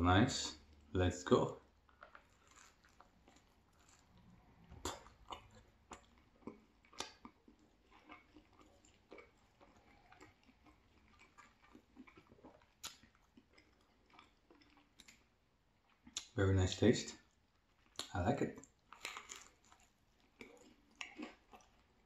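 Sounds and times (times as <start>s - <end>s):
person chewing crunchy food: 1.7s - 16.4s, 17.2s - 22.0s.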